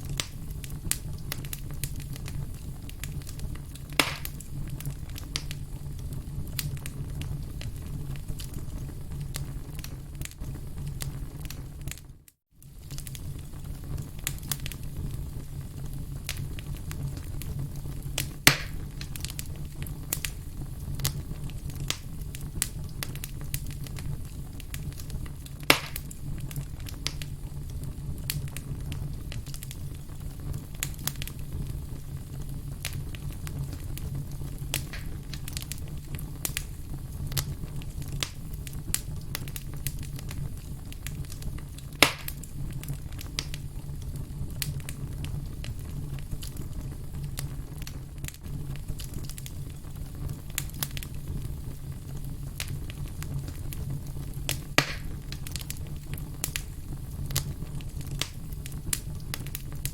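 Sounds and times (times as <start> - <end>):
campfire crackling: 0.0 - 59.9
loud fire pops: 0.0 - 59.9.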